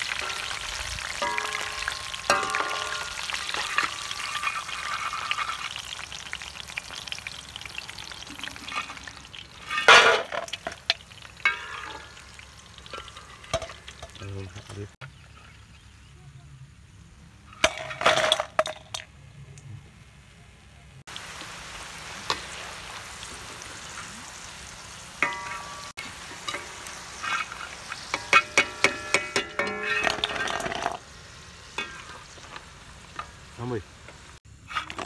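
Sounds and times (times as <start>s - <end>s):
hot oil sizzling: 0.0s - 15.0s, 21.0s - 35.0s.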